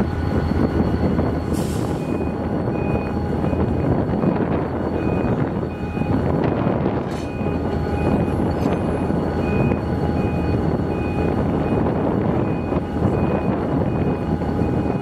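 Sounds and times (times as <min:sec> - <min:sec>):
diesel locomotive idling: 0:00.0 - 0:15.0.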